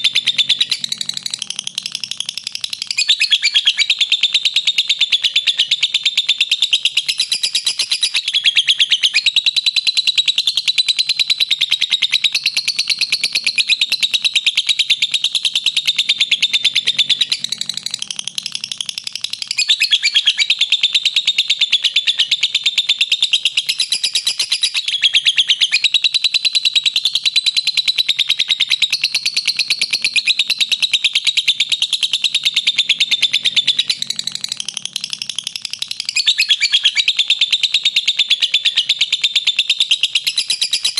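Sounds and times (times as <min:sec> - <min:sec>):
lovebird chattering trill: 0:00.0 - 0:40.9.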